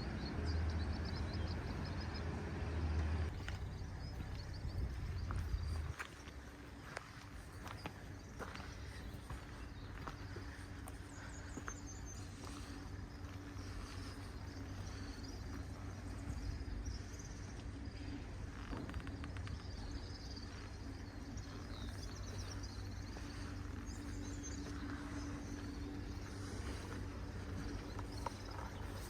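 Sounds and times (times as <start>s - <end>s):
small birds chirping: 0.0s - 29.0s
steady low hum: 0.0s - 29.0s.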